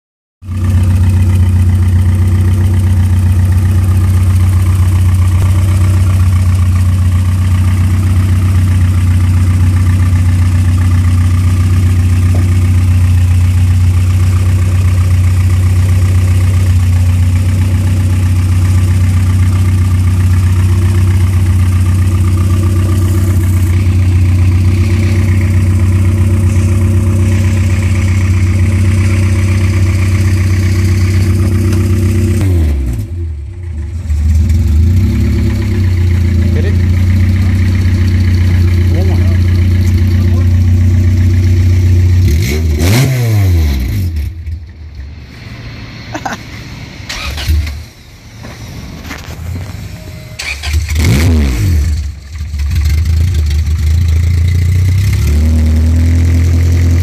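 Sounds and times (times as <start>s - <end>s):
car engine idling: 0.4s - 43.0s, 43.9s - 57.0s.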